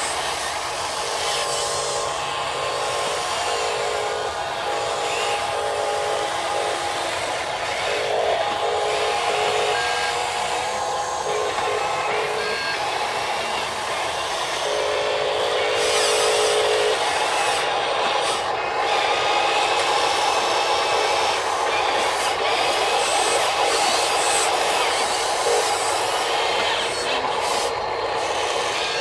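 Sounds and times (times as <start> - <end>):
toy excavator electric motors whining: 0.0 - 29.0.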